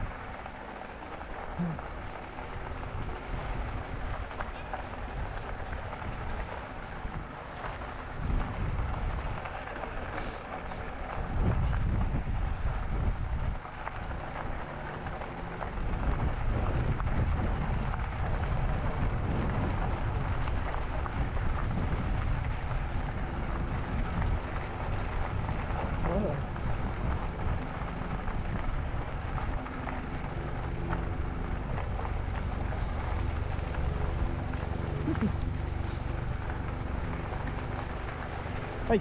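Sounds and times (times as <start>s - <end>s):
wind rushing over microphone: 0.0s - 0.4s, 1.5s - 39.0s.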